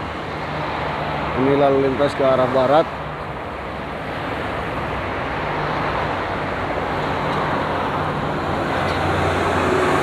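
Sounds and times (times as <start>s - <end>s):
traffic passing: 0.0s - 10.0s.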